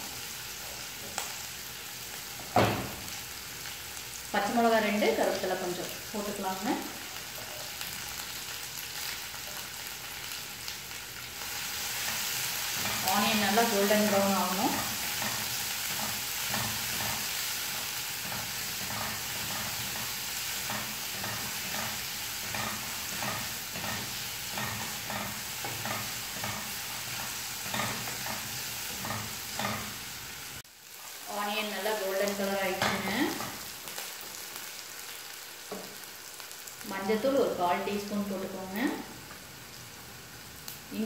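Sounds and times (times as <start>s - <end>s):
onions sizzling in hot oil: 0.0s - 41.0s.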